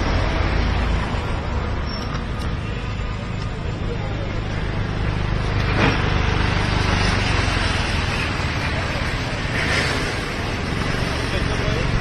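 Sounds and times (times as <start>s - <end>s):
outdoor noise: 0.0s - 12.0s.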